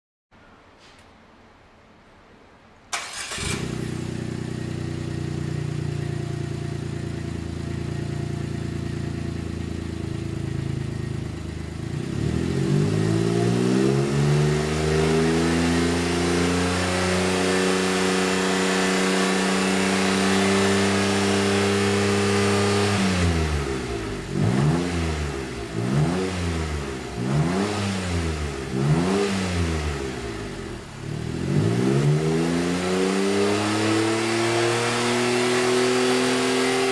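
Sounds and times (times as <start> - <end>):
car engine idling and revving: 3.0 - 36.9.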